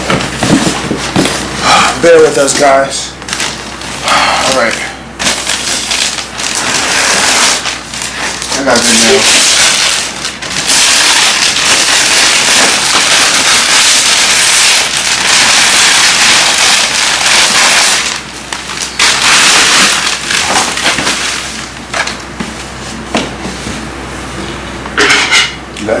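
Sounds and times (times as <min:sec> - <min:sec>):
gift packaging crinkling: 0:00.1 - 0:22.3.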